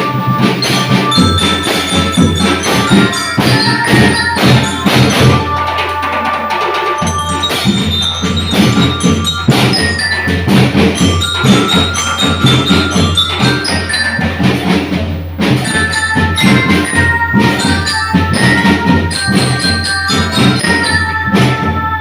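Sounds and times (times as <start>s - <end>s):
bell-like mallet notes: 0.0s - 22.0s
fast drum strokes: 0.0s - 22.0s.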